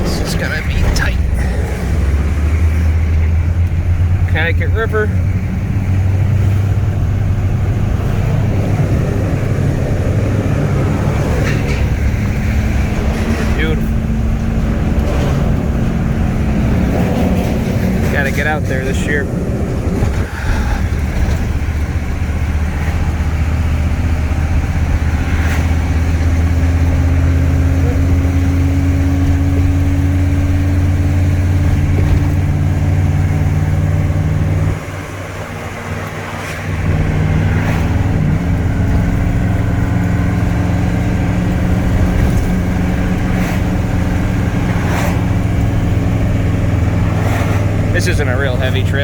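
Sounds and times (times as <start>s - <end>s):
diesel engine running under load: 0.0s - 49.0s.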